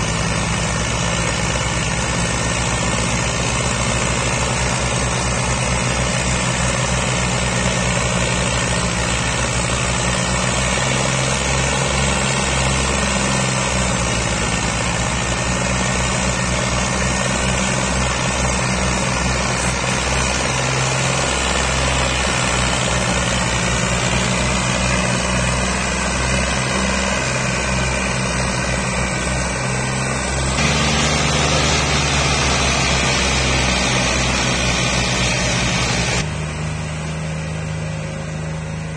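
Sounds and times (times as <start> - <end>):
diesel tractor engines under load: 0.0 - 38.9.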